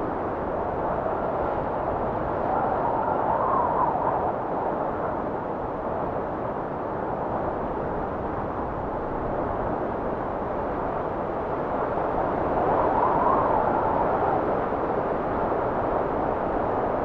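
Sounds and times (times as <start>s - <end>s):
blizzard wind blowing: 0.0s - 17.0s.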